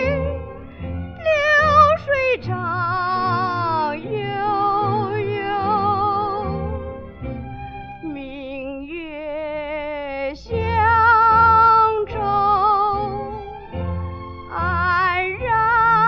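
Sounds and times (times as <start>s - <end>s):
woman singing with vibrato: 0.0s - 6.9s, 8.0s - 13.5s, 14.5s - 16.0s
instrumental accompaniment: 0.0s - 16.0s.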